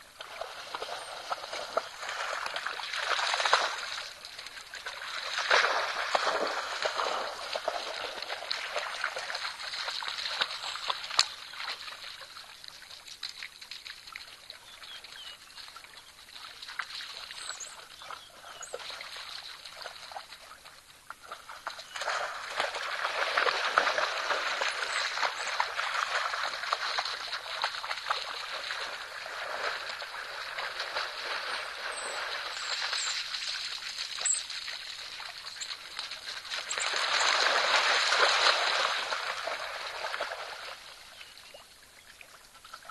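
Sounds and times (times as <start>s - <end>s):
water splashing and sloshing: 0.0s - 42.9s.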